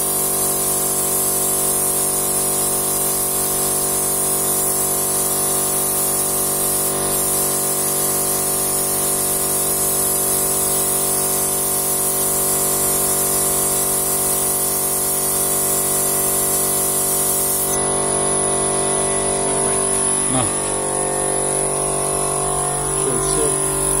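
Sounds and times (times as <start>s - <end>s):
air compressor humming: 0.0s - 24.0s
paint spray gun hissing: 0.0s - 24.0s.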